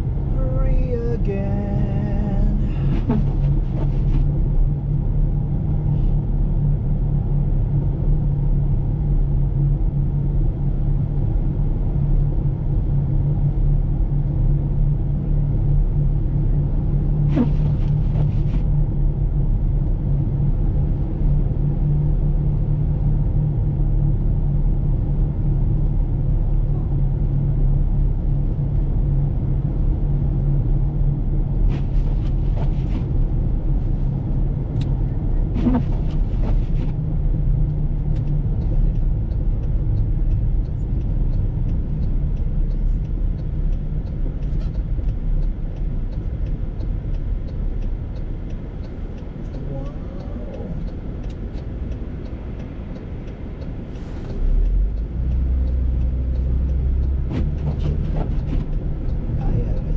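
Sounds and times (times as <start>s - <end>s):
car driving on snow: 0.0s - 59.9s.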